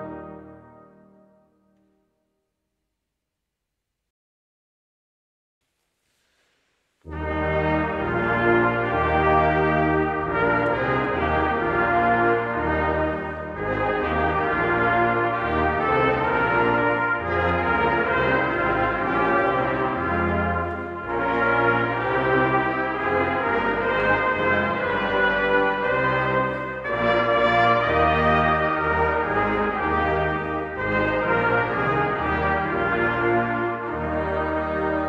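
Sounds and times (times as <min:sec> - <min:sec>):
brass choir playing chords: 0:00.0 - 0:01.7, 0:07.1 - 0:35.0.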